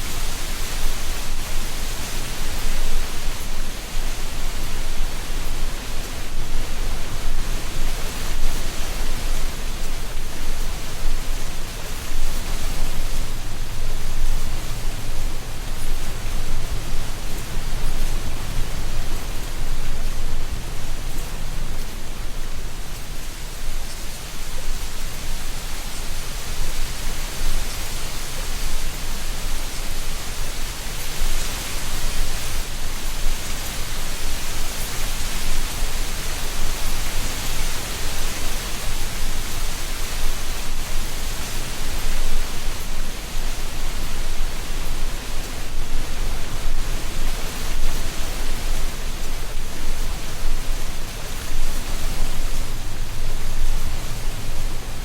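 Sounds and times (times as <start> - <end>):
wind rustling dry leaves: 0.0 - 55.0.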